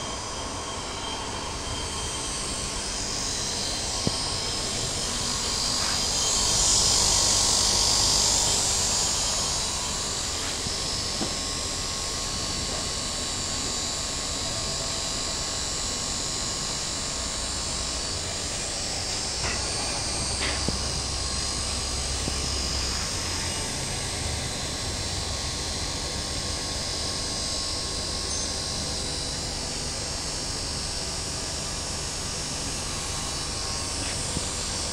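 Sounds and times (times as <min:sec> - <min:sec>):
electric motor and pump humming: 0:00.0 - 0:34.9.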